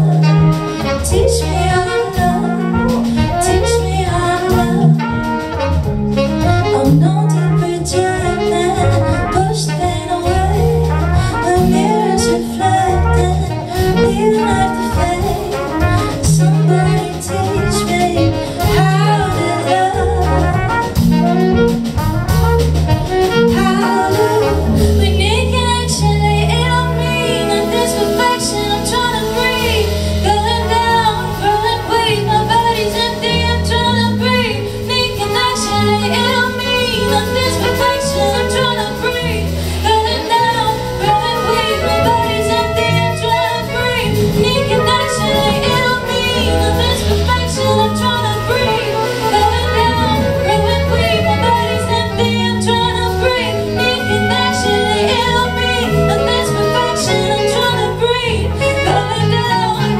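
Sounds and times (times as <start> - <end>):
woman singing: 0.0 - 5.6, 6.3 - 21.6, 23.2 - 59.9
bass line: 0.0 - 59.9
drum kit: 0.0 - 59.9
saxophone: 0.0 - 59.9
trumpet: 0.0 - 59.9.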